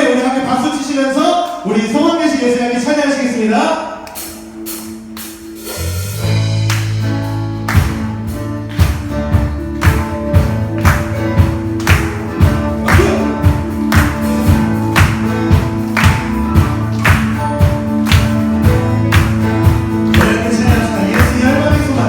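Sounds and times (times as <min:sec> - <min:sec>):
band bass and guitar chords: 0:03.9 - 0:22.0
drums steady beat: 0:04.2 - 0:22.0.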